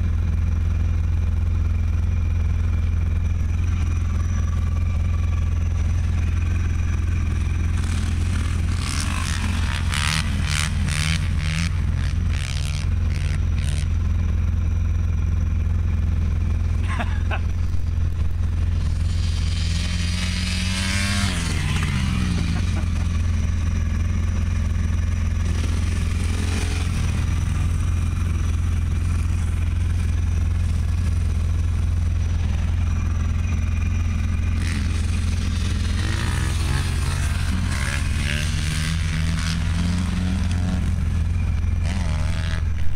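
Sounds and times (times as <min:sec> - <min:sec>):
distant dirt bike engine revving: 0:00.0 - 0:42.9
steady low rumble: 0:00.0 - 0:42.9.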